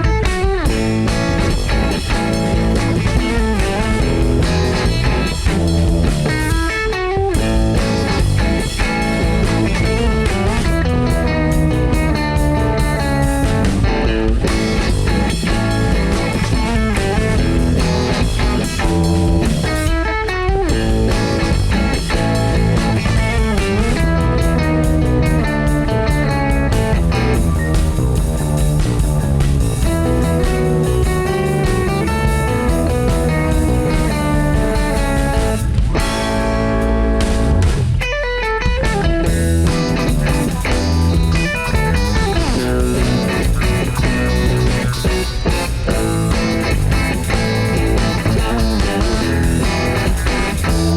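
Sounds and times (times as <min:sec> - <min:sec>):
drums: 0:00.0 - 0:50.9
electric guitar with bent notes: 0:00.0 - 0:50.9
funky band playing: 0:00.0 - 0:50.9.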